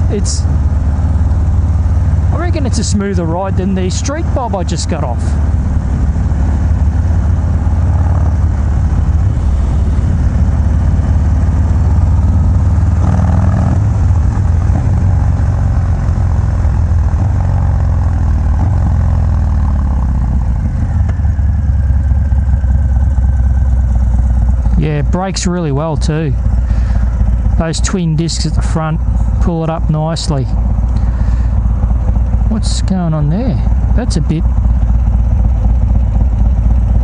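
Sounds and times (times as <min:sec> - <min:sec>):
motorcycle engine running loud: 0:00.0 - 0:37.0.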